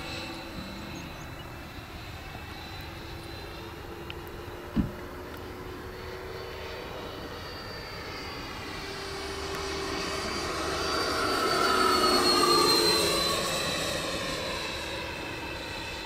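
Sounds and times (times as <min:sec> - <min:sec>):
model jet fan whining: 0:00.0 - 0:16.0.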